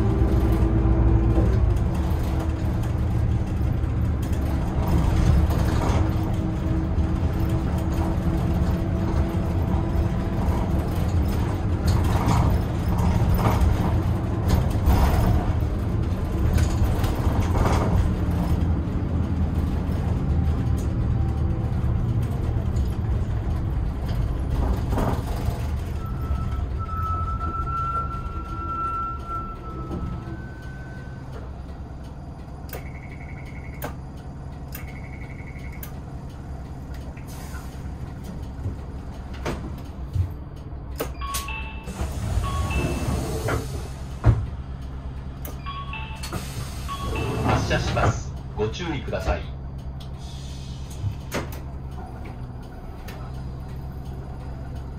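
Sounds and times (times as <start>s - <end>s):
bus engine and road noise: 0.0s - 54.9s.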